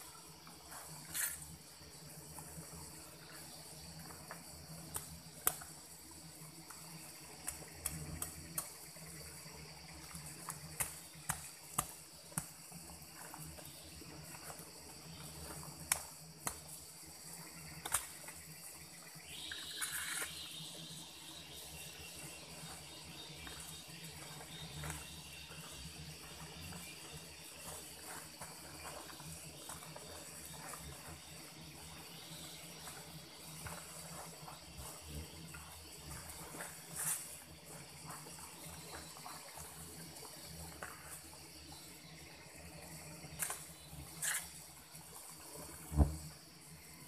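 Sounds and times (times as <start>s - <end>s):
insect buzz: 0.0s - 47.0s.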